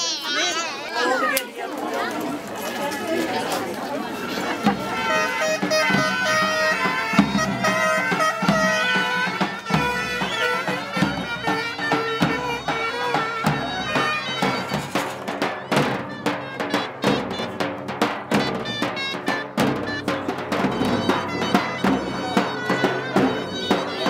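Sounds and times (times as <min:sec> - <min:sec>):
reed pipe melody: 0:03.8 - 0:24.0.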